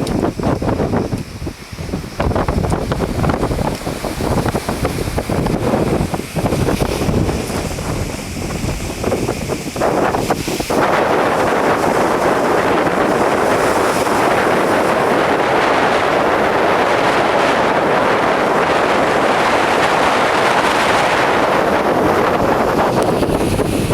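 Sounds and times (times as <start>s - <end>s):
strong wind on microphone: 0.0s - 23.9s.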